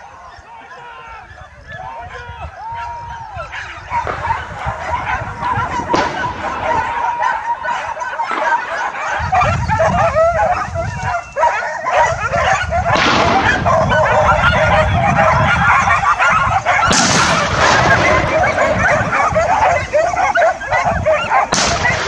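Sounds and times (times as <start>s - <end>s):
dogs yelping and barking: 0.0s - 22.0s.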